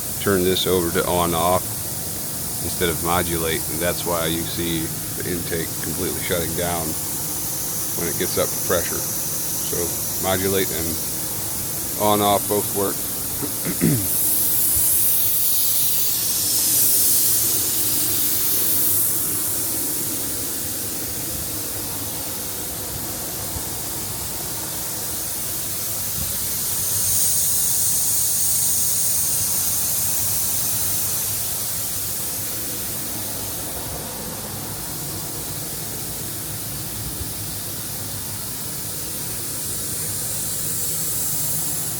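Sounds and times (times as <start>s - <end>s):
air compressor running: 0.0s - 41.9s
rushing hiss of air: 0.0s - 41.9s.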